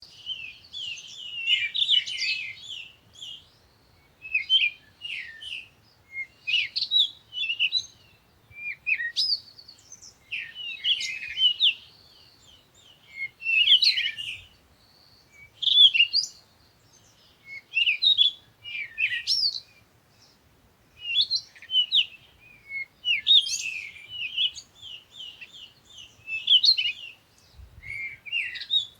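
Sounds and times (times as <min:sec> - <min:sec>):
bird chirping and twittering: 0:04.3 - 0:20.4, 0:21.0 - 0:28.9.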